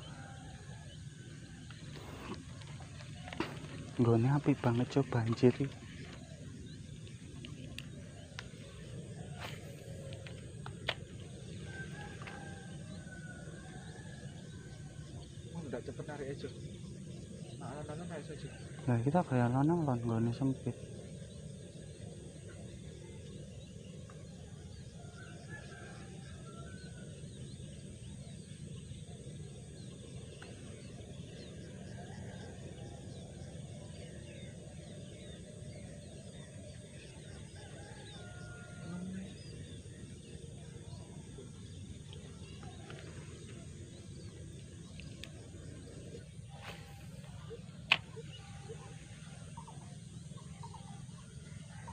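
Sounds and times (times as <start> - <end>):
low wind-like rumble: 0.0 - 51.9.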